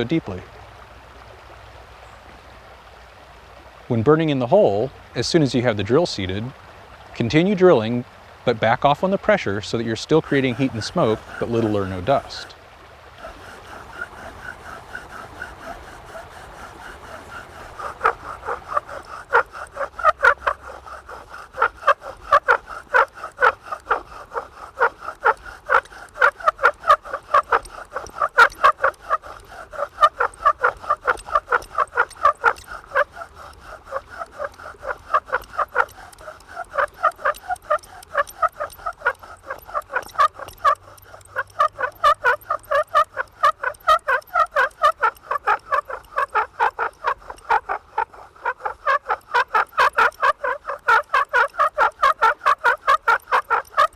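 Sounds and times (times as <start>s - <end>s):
bow drill spindle squeaking: 8.6s - 12.6s, 13.2s - 53.9s.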